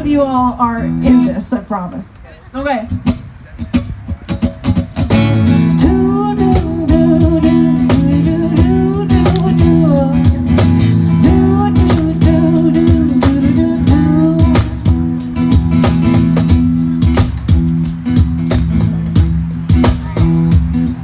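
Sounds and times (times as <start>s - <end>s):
live band country music: 3.0s - 21.0s
strummed guitar chords: 3.0s - 21.0s.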